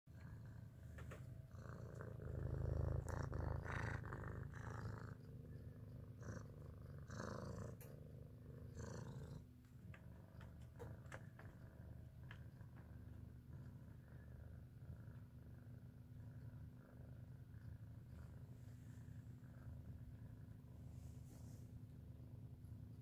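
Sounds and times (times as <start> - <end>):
cat purring: 0.1 - 23.0.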